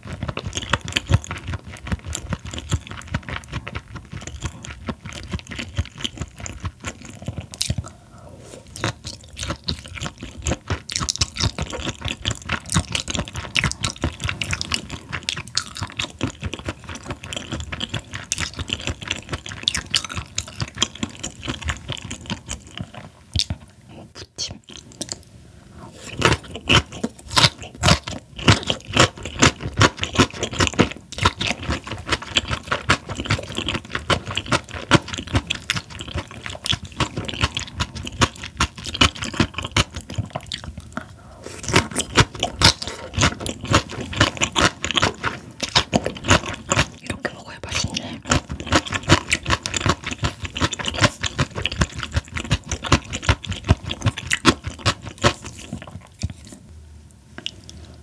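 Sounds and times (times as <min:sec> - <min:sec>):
chewing raw fish: 0:00.0 - 0:25.2, 0:25.9 - 0:56.7.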